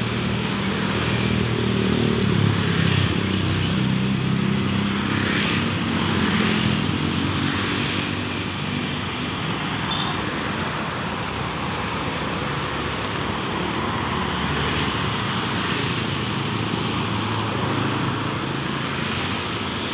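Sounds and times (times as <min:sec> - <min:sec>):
cars and motorcycles passing: 0:00.0 - 0:19.9.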